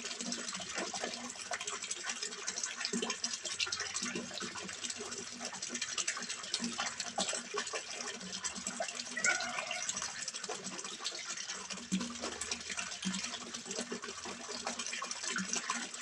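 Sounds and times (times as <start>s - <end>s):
water splashing into pond: 0.0s - 16.0s.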